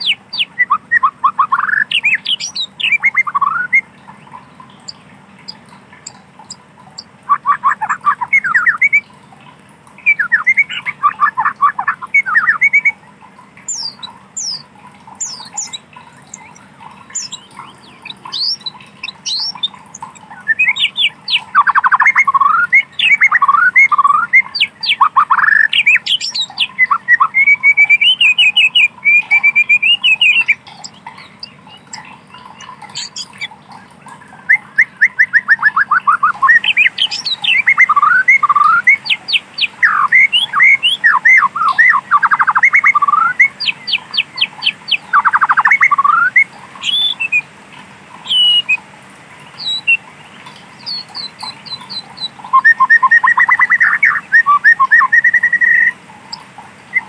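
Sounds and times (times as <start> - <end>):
bird singing trills: 0.0 - 47.5, 48.1 - 48.8, 49.4 - 57.0.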